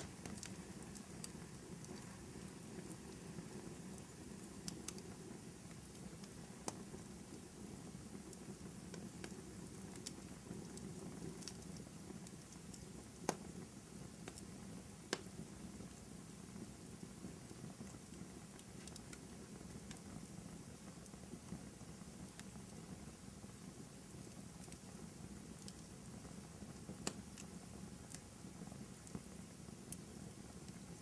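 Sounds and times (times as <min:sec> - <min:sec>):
fire crackles and pops: 0:00.0 - 0:31.0
fire flames rushing: 0:00.0 - 0:31.0.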